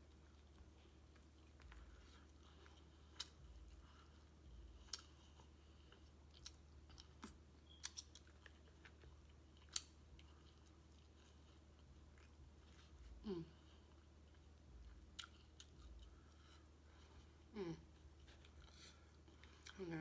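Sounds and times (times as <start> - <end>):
chewing food: 0.0 - 20.0
steady low hum: 0.0 - 20.0.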